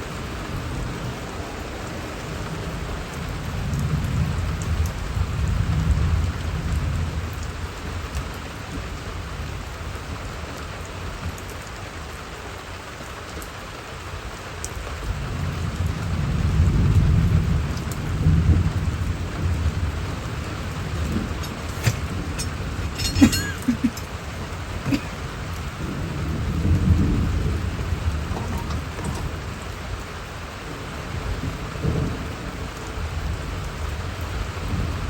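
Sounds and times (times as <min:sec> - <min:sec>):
rain hissing on surfaces: 0:00.0 - 0:35.0.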